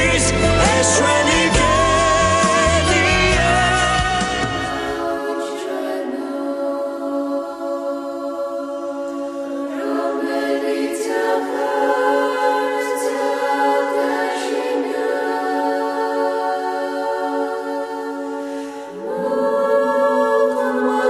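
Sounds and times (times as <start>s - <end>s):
unaccompanied choir singing: 0.0s - 21.0s.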